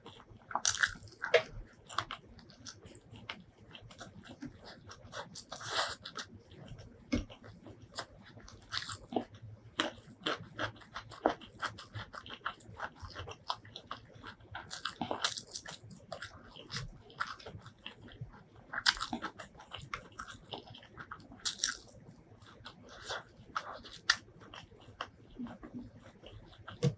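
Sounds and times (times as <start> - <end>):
close chewing with mouth smacks: 0.0 - 26.9.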